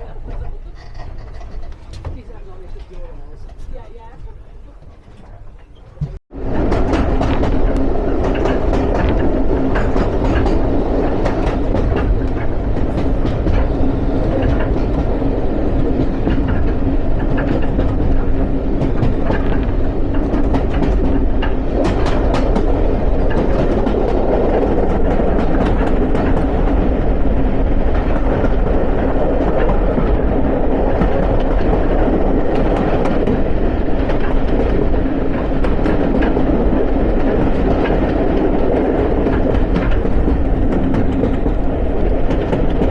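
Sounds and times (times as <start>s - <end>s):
railway carriage rumble: 0.0s - 42.9s
wheels clicking over rail joints: 0.0s - 42.9s.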